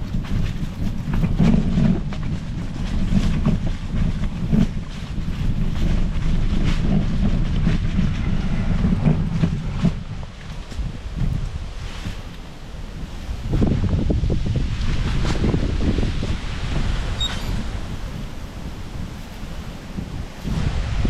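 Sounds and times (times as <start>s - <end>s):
bike knocks and rattles: 0.0s - 21.0s
mountain bike rolling on trail: 0.0s - 21.0s
wind buffeting microphone: 0.0s - 21.0s.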